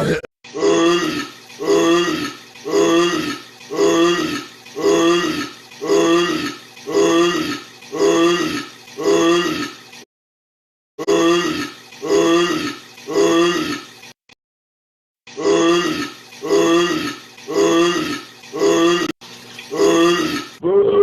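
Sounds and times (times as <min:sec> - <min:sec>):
man burping: 0:00.0 - 0:09.7, 0:11.0 - 0:13.8, 0:15.3 - 0:21.0.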